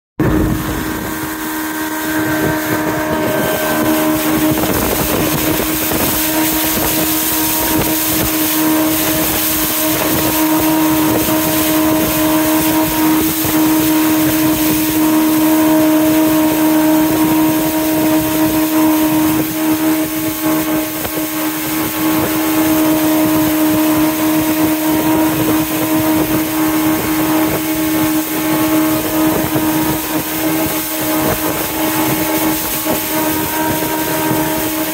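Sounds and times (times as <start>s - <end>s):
boat engine humming: 0.2s - 34.9s
water and wind hissing: 0.2s - 34.9s.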